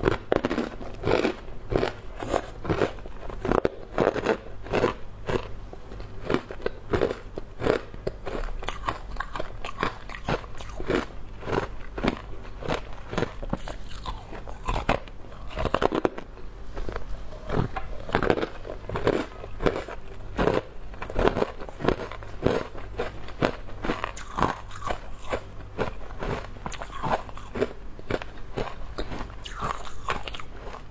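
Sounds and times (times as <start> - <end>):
person chewing hard ice: 0.0 - 30.9.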